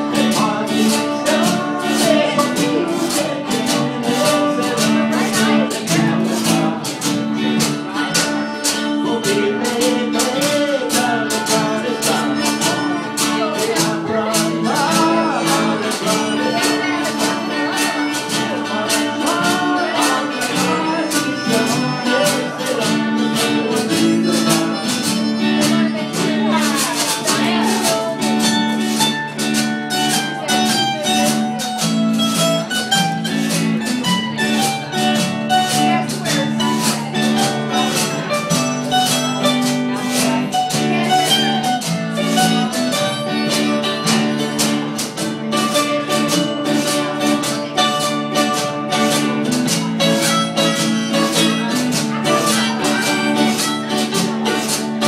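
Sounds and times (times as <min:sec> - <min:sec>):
mandolin picking: 0:00.0 - 0:55.0
strummed acoustic guitar: 0:00.0 - 0:55.0.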